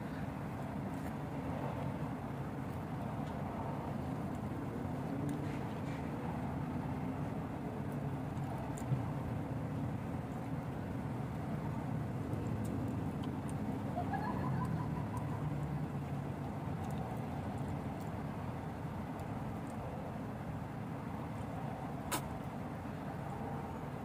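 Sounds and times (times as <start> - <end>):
distant road traffic rumble: 0.0 - 24.0.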